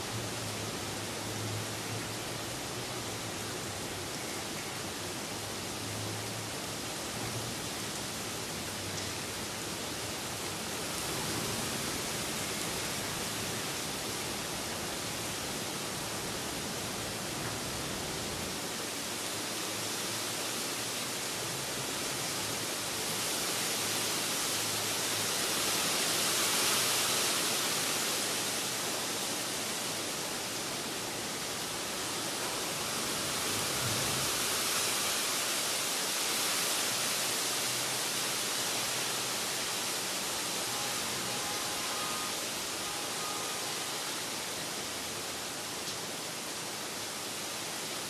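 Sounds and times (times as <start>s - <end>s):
rain falling on leafy tree: 0.0s - 48.0s.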